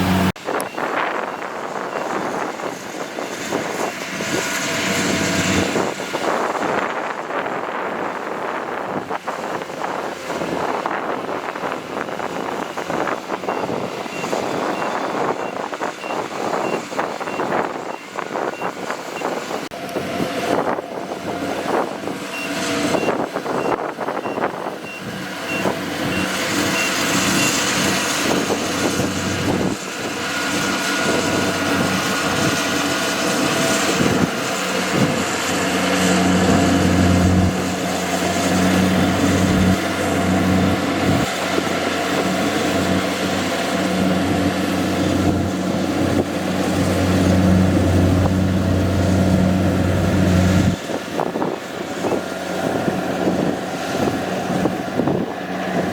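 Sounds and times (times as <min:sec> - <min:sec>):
combine harvester diesel engine: 0:00.0 - 0:55.9.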